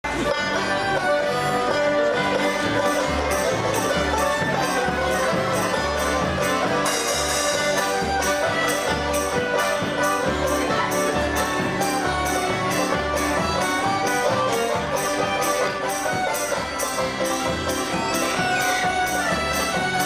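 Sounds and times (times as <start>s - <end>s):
folk band playing polka: 0.0s - 20.0s.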